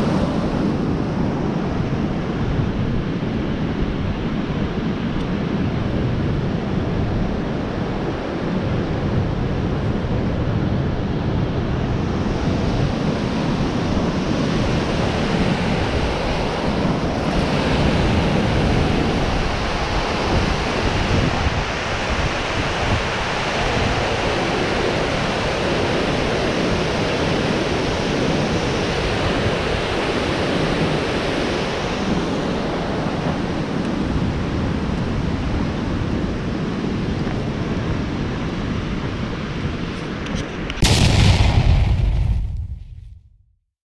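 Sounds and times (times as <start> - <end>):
wind buffeting microphone: 0.0 - 43.3.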